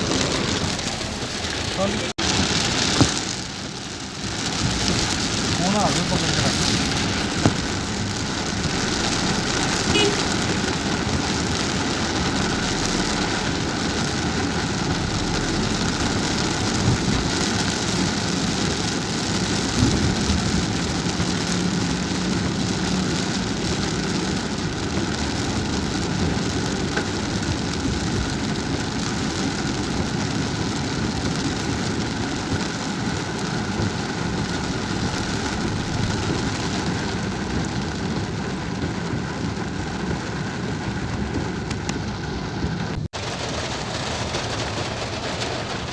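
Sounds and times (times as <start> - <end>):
car road and engine noise: 0.0 - 45.9
rain falling on a car: 0.0 - 45.9.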